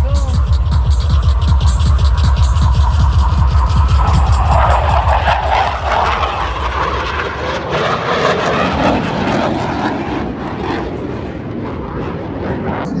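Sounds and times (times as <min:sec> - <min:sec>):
jets roaring past: 0:00.0 - 0:13.0.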